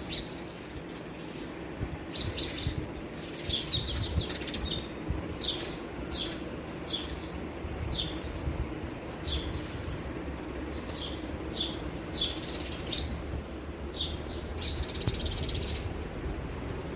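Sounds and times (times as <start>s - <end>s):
sparrows chirping: 0.0s - 16.1s.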